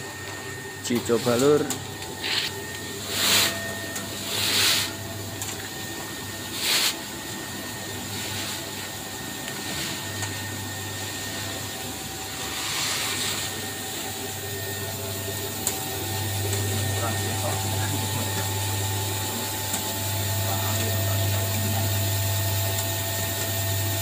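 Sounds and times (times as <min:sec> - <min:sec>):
feed mixer mechanical hum: 0:00.0 - 0:24.0.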